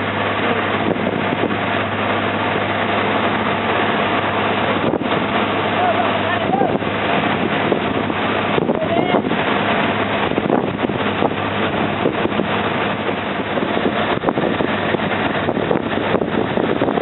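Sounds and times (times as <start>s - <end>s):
boat engine humming: 0.0s - 17.0s
wind on microphone: 0.0s - 17.0s.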